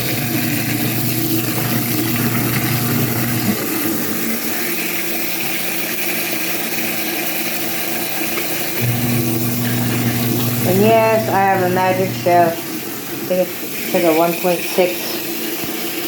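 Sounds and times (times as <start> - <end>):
washer motor humming: 0.0 - 16.0
water pouring into tub: 0.0 - 16.0.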